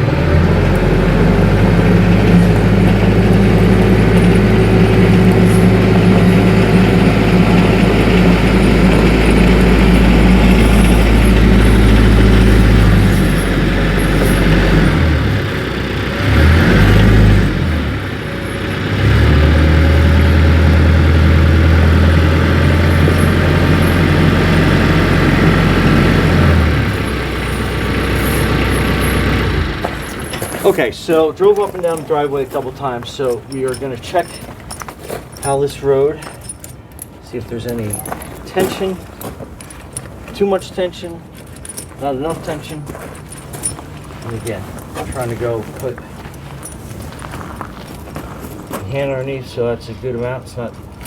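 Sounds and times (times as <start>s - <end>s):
tractor diesel engine running: 0.0s - 49.4s.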